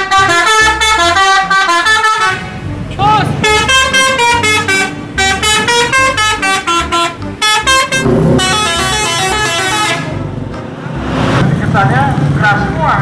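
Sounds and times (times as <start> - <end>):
bus musical horn tune: 0.0 - 10.5.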